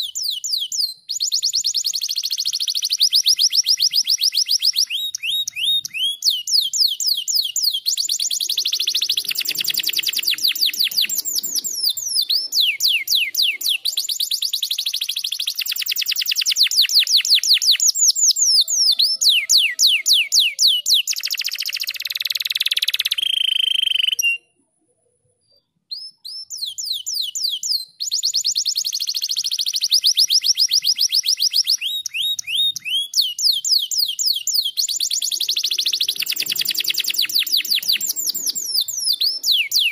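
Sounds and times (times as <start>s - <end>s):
canary singing trills: 0.0s - 24.6s, 25.5s - 39.9s.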